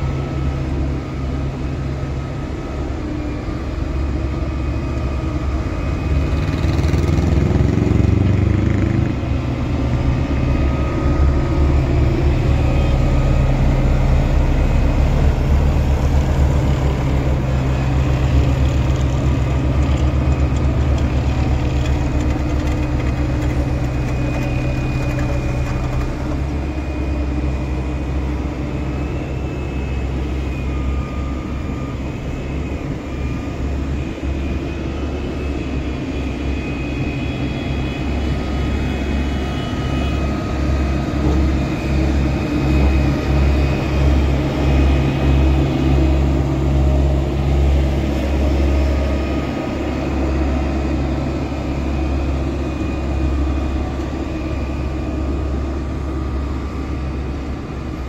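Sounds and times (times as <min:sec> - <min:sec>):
paving machinery running: 0:00.0 - 0:58.0
road roller diesel engine: 0:00.0 - 0:58.0.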